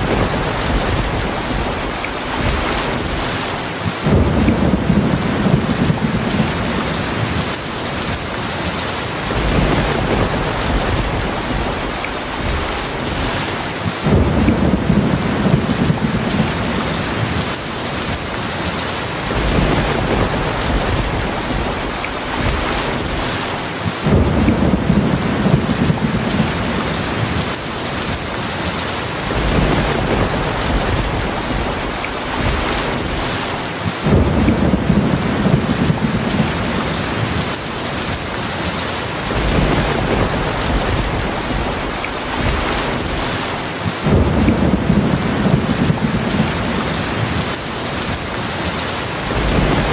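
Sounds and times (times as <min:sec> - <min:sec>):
low thunder rumbles: 0:00.0 - 0:08.4, 0:09.1 - 0:18.1, 0:19.1 - 0:28.1, 0:29.1 - 0:38.2, 0:39.1 - 0:48.1, 0:49.2 - 0:49.9
heavy rain falling: 0:00.0 - 0:49.9.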